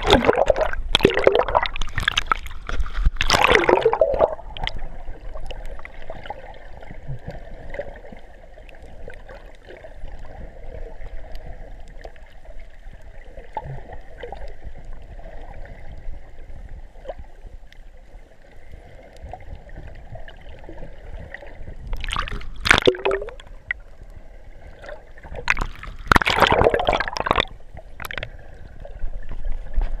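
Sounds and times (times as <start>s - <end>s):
bubbling water: 0.0s - 17.2s, 19.0s - 30.0s
underwater water sloshing: 0.0s - 30.0s.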